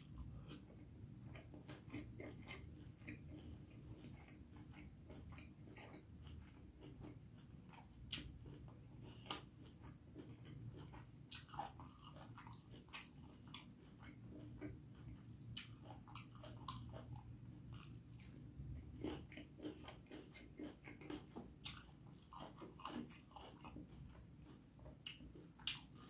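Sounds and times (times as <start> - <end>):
faint low hum: 0.0 - 26.0
person chewing food: 0.0 - 26.0.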